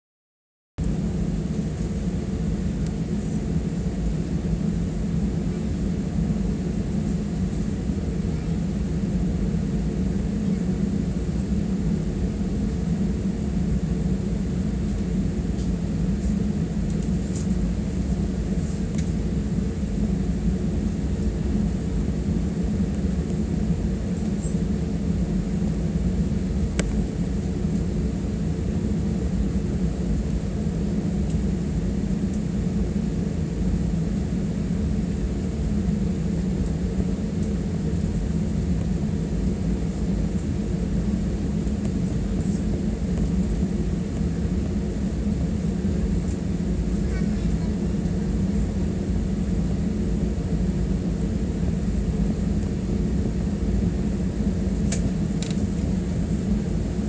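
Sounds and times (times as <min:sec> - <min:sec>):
jet engines rumbling at low power: 0:00.8 - 0:57.0.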